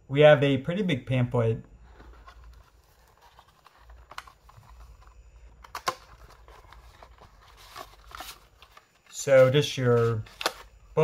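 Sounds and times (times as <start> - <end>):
cardboard packaging rustling: 1.8 - 10.8.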